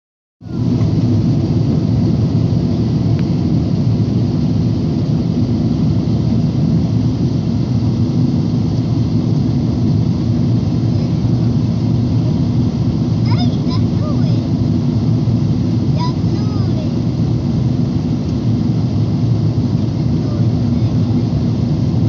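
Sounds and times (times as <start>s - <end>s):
jet engines rumbling: 0.4s - 22.0s
rushing airflow: 0.5s - 22.0s.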